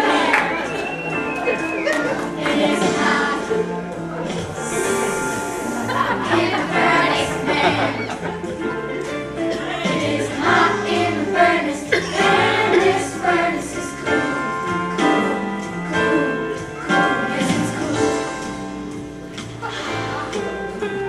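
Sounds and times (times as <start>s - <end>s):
group of voices singing: 0.0s - 8.6s, 9.5s - 18.7s.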